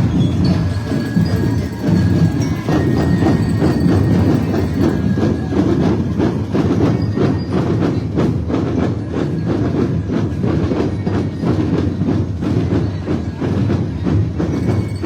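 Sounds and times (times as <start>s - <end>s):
percussion band drumming: 0.0s - 15.0s.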